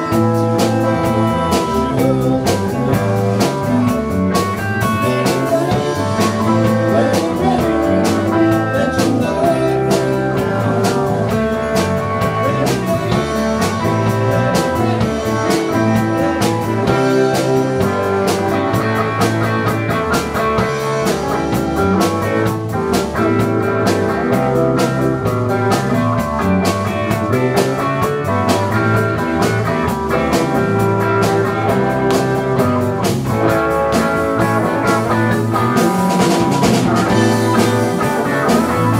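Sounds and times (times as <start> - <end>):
drums: 0.0 - 38.9
electric guitar: 0.0 - 38.9
live blues-rock band: 0.0 - 38.9.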